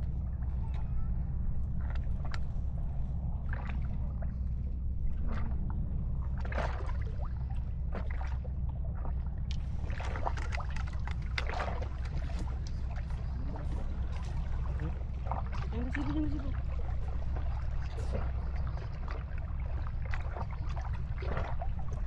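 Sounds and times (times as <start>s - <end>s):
steady low rumble: 0.0s - 22.0s
water lapping and splashing: 0.0s - 22.0s.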